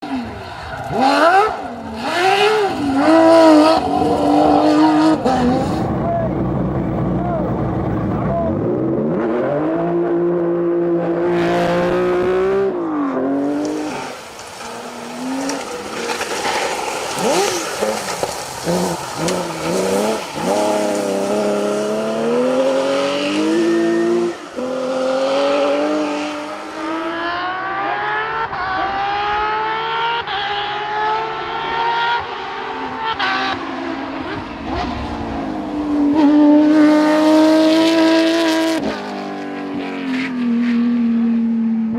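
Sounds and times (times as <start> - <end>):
rally car engine at full throttle: 0.0 - 41.9.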